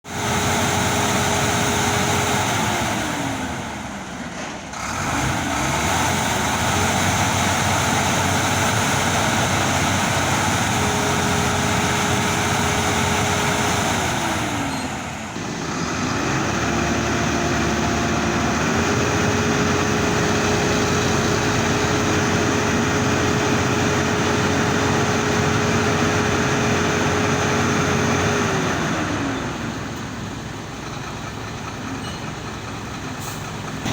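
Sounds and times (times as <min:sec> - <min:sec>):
vehicle road and engine noise: 0:00.0 - 0:33.9.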